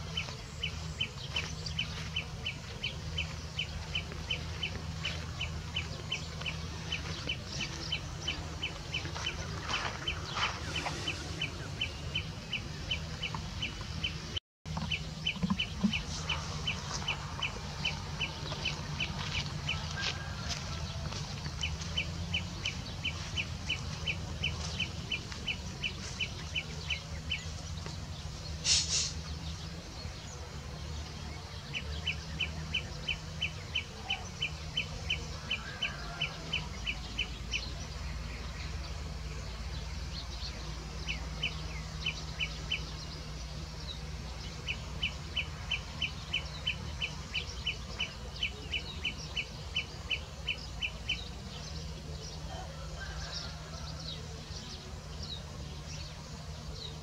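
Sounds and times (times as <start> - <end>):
bird chirping: 0.0 - 20.8, 21.4 - 57.0.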